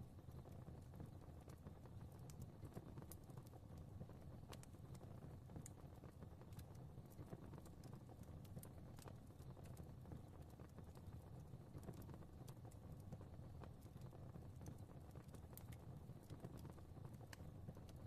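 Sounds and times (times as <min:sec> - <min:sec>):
fireplace fire crackling: 0:00.0 - 0:18.0
low rumble of flames: 0:00.0 - 0:18.0.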